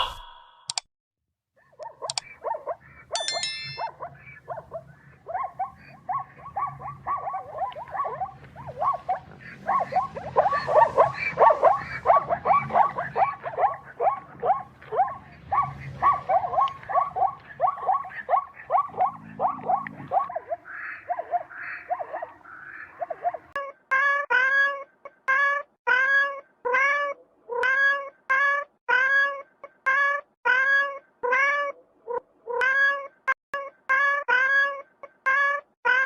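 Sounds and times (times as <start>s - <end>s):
animal calling rapidly: 1.6s - 32.9s.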